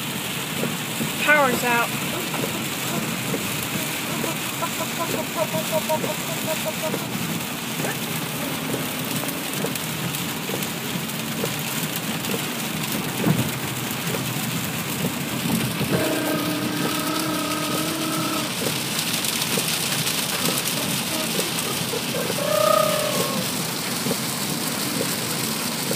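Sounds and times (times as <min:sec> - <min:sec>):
rain on a car: 0:00.0 - 0:25.9
road noise: 0:00.0 - 0:25.9.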